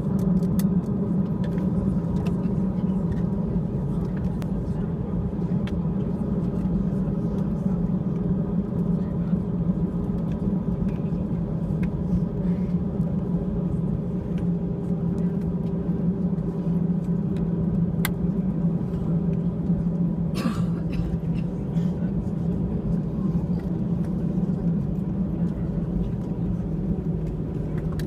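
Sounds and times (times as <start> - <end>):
jet engines low drone: 0.0 - 28.0.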